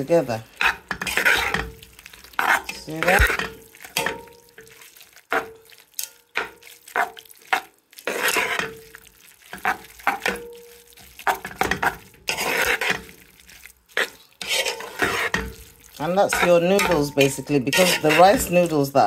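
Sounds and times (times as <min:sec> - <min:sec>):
food sizzling: 0:00.0 - 0:19.0
metal spoon clacking on pot: 0:00.5 - 0:13.2, 0:14.0 - 0:18.9.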